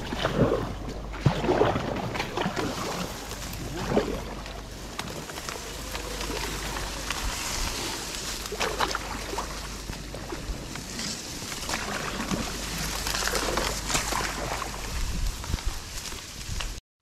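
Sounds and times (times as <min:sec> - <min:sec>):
paddle strokes in water: 0:00.0 - 0:16.8
reeds rustling against kayak: 0:00.0 - 0:16.8.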